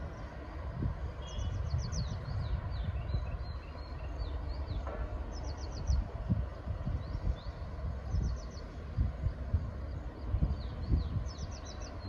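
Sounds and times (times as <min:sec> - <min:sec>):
birds chirping: 0:01.2 - 0:12.0.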